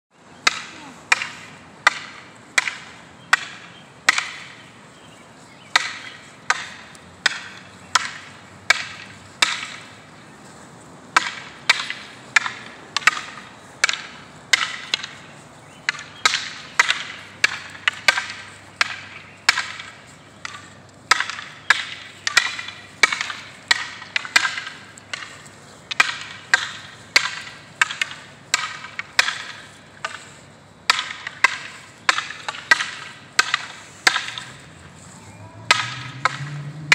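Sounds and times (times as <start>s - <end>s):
wooden staffs clacking: 0.4s - 36.9s.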